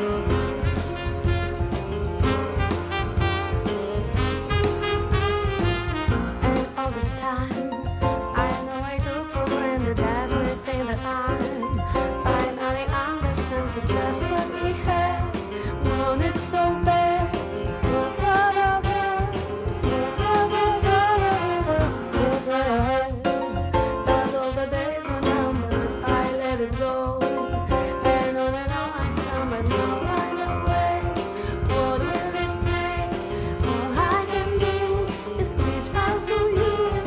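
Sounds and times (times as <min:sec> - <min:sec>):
jazz band playing: 0:00.0 - 0:37.0
woman singing: 0:06.3 - 0:37.0.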